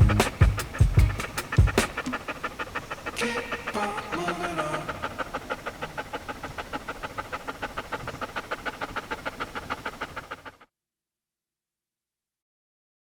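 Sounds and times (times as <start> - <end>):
dog panting: 0.0 - 10.6.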